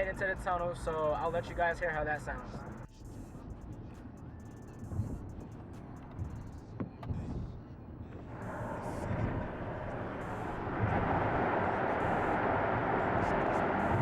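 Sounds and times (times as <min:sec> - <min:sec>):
car engine exhaust: 0:00.0 - 0:14.0
road noise: 0:00.0 - 0:14.0.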